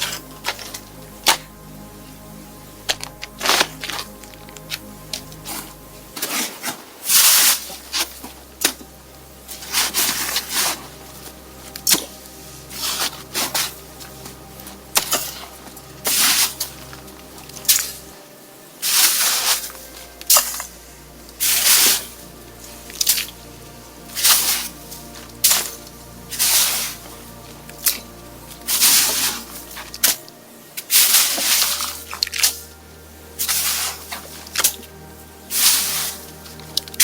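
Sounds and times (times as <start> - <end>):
soft background music: 0.0 - 37.0.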